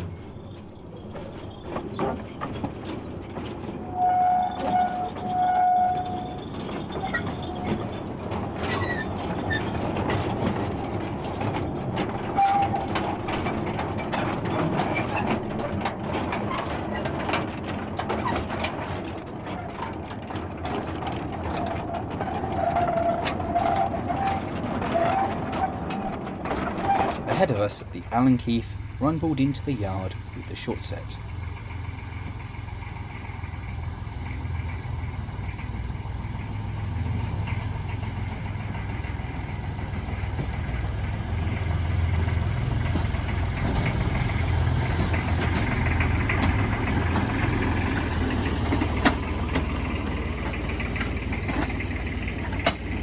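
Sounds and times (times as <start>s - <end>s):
train engine rumbling: 0.0s - 53.0s
wheels clattering on rails: 0.0s - 53.0s.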